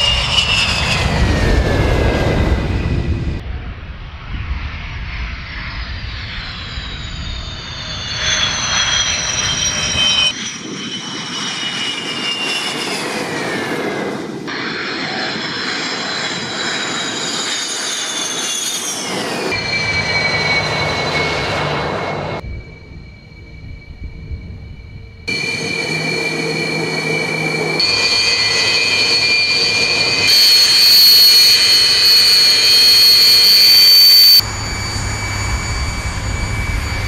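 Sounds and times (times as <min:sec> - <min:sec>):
jet engines whining and rumbling: 0:00.0 - 0:37.0.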